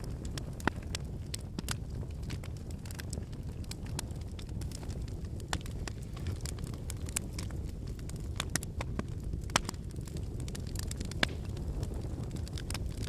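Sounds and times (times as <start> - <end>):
campfire flames rumbling: 0.0 - 13.0
firewood crackles and pops: 0.0 - 13.0.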